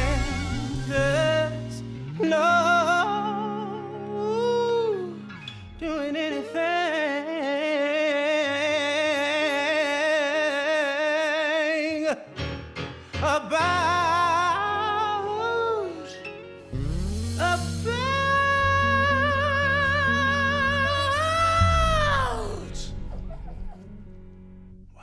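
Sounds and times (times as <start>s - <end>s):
person singing with vibrato: 0.0s - 12.4s, 13.1s - 23.8s
musical backing: 0.0s - 25.0s.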